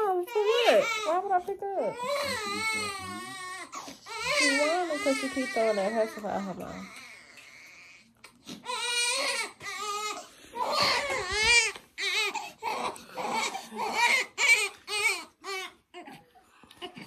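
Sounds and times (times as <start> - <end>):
baby crying: 0.0 - 17.0.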